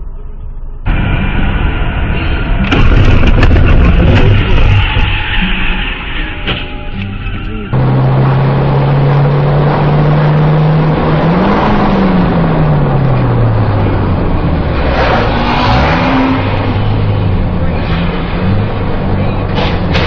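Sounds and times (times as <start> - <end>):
car engine running: 0.0 - 20.0
road noise: 0.0 - 20.0.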